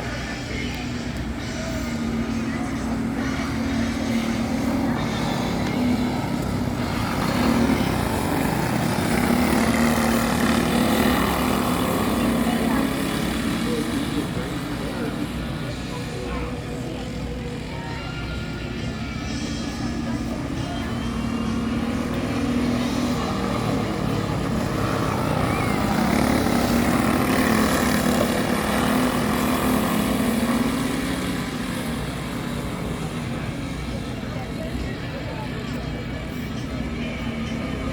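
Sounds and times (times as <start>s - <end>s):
go-kart engines droning: 0.0s - 37.9s.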